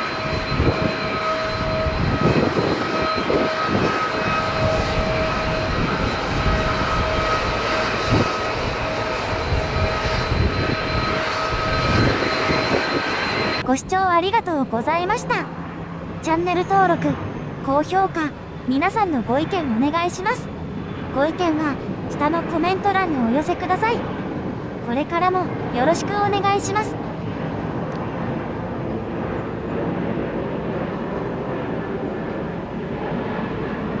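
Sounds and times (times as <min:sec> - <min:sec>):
airliner engines idling in cabin: 0:00.0 - 0:34.0.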